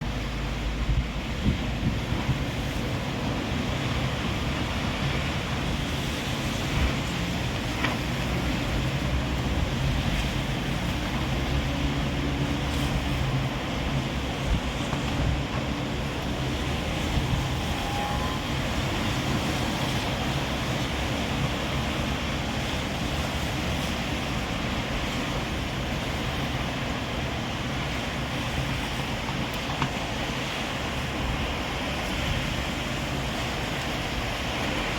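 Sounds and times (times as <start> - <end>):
strong wind buffeting microphone: 0.0 - 34.9.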